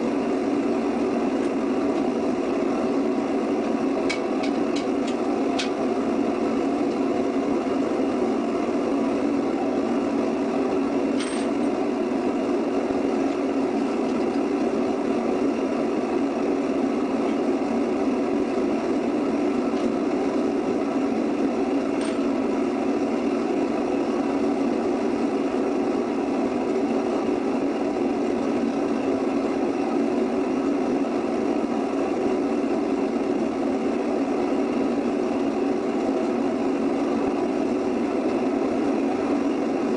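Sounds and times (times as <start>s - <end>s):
furnace rushing roar: 0.0s - 39.9s.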